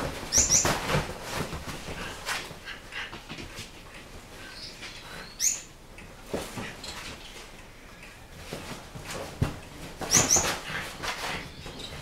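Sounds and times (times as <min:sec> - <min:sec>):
dogs scuffling and rustling: 0:00.0 - 0:05.3, 0:06.1 - 0:07.6, 0:08.2 - 0:12.0.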